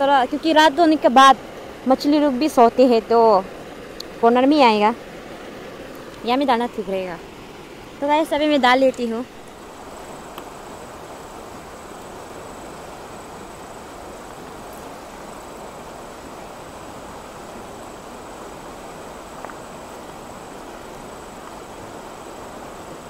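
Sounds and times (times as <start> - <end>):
high insect drone: 0.0 - 23.0
stream flowing: 0.0 - 23.0.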